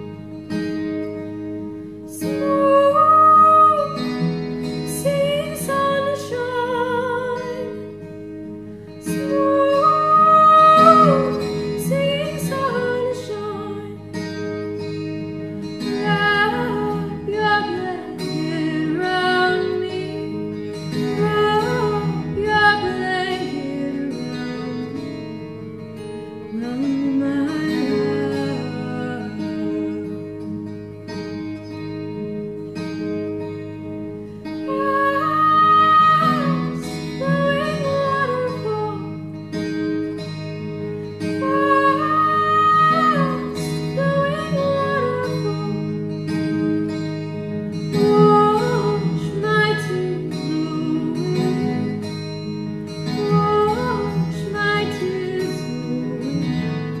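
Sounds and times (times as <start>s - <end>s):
twelve-string acoustic guitar: 0.0s - 57.0s
woman singing: 2.1s - 30.8s, 34.4s - 40.3s, 41.0s - 57.0s.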